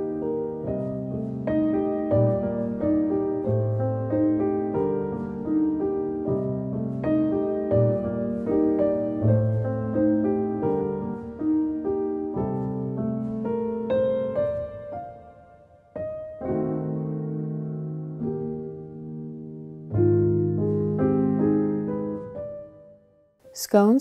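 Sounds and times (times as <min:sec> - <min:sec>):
slow piano melody: 0:00.0 - 0:24.0.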